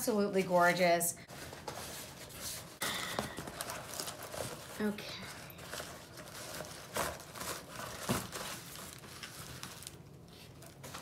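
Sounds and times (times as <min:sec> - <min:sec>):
paper and cardboard crinkling: 0:01.3 - 0:11.0.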